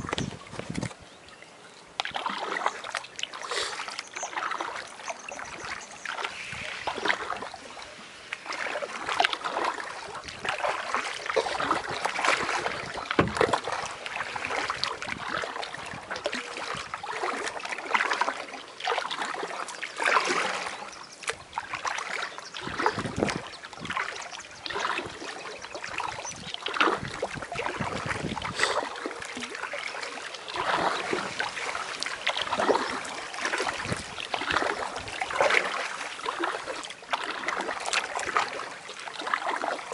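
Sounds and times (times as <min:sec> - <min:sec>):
paddle strokes splashing: 0:00.0 - 0:39.9
water trickling off paddle: 0:00.0 - 0:39.9.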